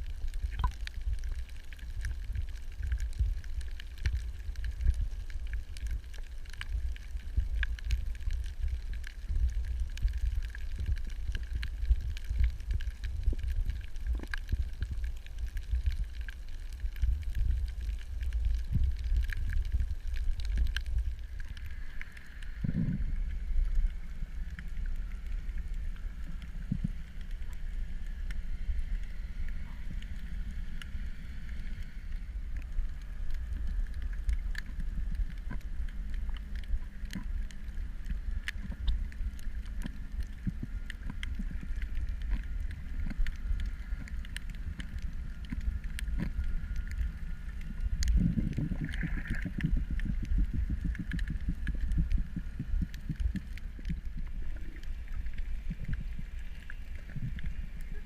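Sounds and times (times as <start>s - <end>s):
constant higher hum: 0.0s - 58.0s
underwater low rumble: 0.0s - 58.0s
sharp underwater clicks: 0.4s - 58.0s.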